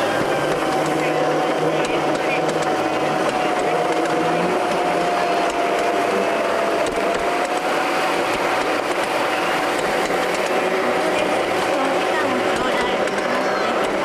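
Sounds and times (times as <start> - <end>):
miniature train running on track: 0.0 - 14.0.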